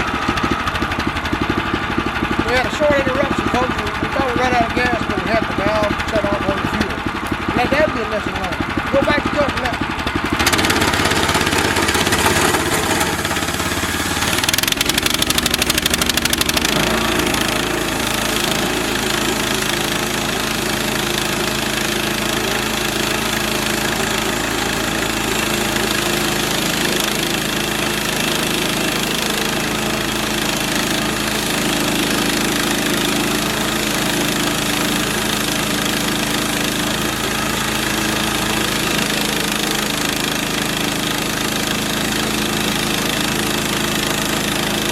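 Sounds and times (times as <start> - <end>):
band blade sawing wood: 0.0 - 44.9
sawmill gas engine running: 0.0 - 44.9.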